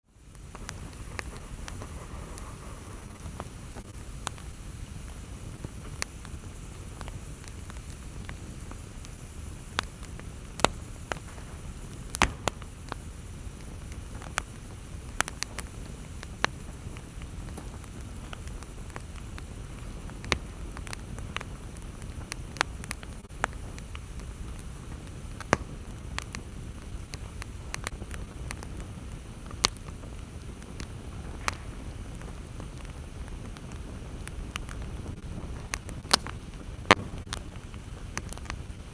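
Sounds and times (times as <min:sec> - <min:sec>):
campfire low rumble: 0:00.0 - 0:38.9
wood crackling and popping: 0:00.1 - 0:38.9.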